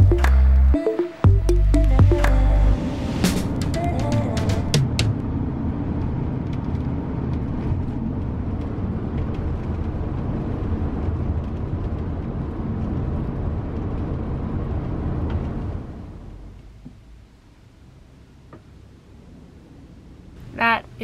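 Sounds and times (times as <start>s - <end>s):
road noise inside a van: 2.5s - 21.0s.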